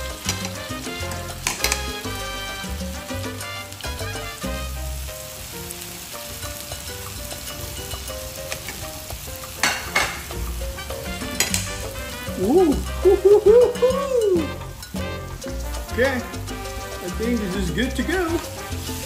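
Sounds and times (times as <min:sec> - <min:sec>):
meat sizzling on grill pan: 0:00.0 - 0:14.9, 0:15.6 - 0:19.0.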